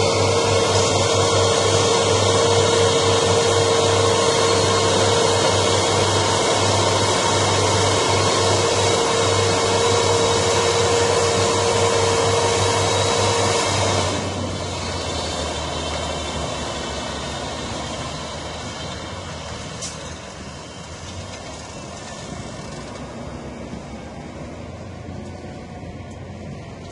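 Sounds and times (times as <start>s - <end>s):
steady whine: 0.0s - 26.9s
tractor diesel engine under load: 0.0s - 26.9s.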